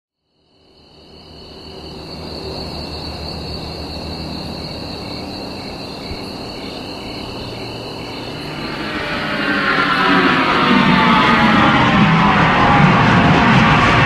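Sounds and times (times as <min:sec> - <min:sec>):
low sustained drone: 0:00.8 - 0:14.0.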